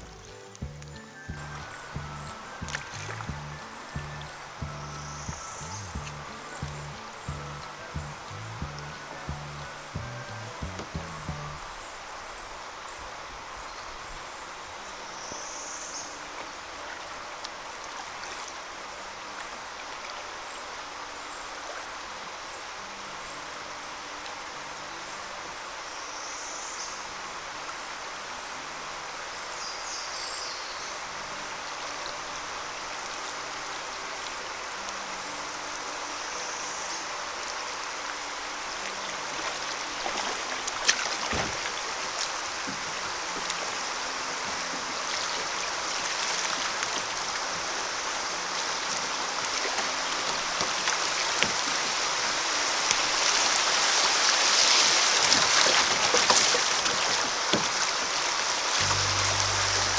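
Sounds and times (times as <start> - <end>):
creek water rushing: 0.0 - 59.9.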